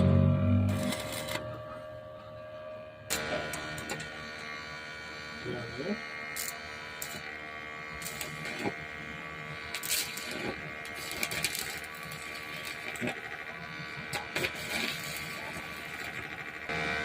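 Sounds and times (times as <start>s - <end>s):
steady electric buzz: 0.0s - 17.0s.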